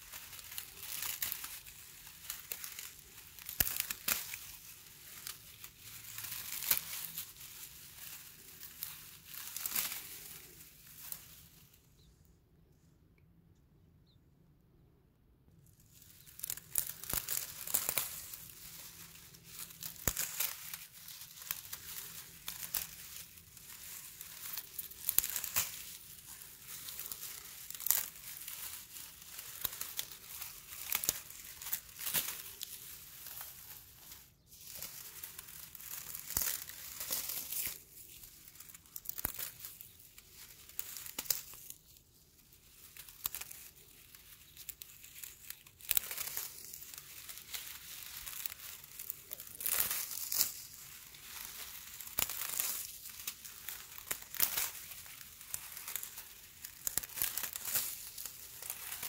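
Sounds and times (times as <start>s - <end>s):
dry grass crackling and rustling: 0.0s - 12.2s, 15.6s - 59.0s.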